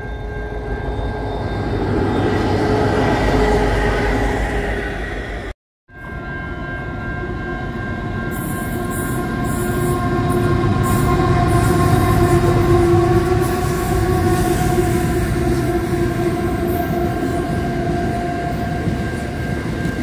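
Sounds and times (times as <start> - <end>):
diesel locomotive engine: 0.0 - 20.0.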